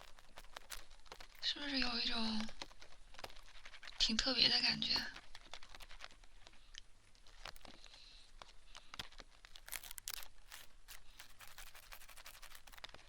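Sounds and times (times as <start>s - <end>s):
horsehair strands scratching microphone: 0.0s - 13.0s.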